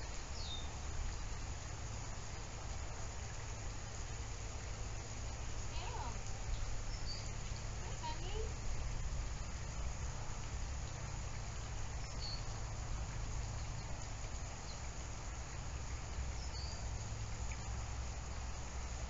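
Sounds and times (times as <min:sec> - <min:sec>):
faint even hiss: 0:00.0 - 0:19.0.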